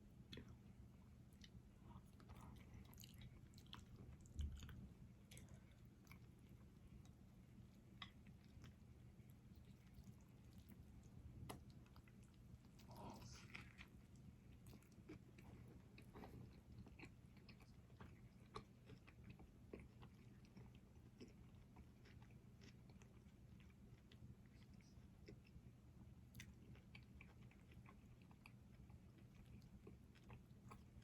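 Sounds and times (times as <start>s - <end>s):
person chewing food: 0.1s - 31.0s.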